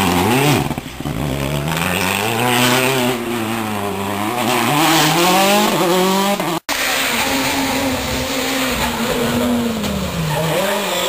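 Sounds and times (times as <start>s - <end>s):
rally car accelerating: 0.0s - 11.0s
rally car engine droning: 0.0s - 11.0s.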